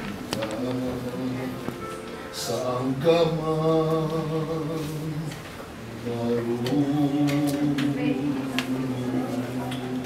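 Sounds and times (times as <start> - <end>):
slow hymn singing: 0.0 - 10.0.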